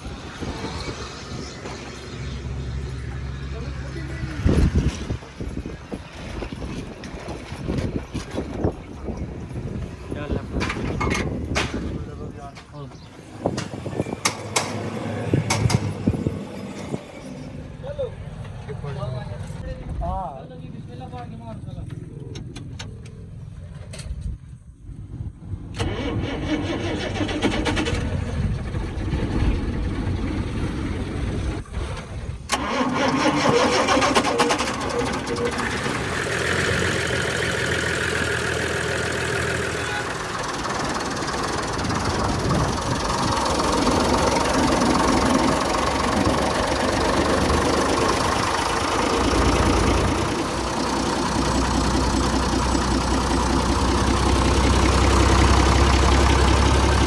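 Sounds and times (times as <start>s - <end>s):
diesel engine cranking and starting: 0.0s - 57.0s.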